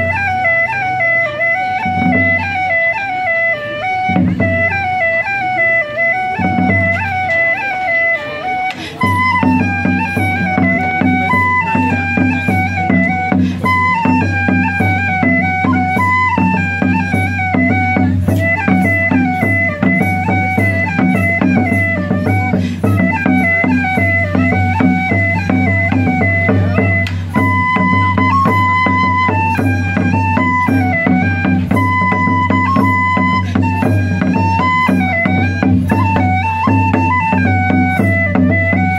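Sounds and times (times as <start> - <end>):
folk band playing dance tune: 0.0 - 38.9.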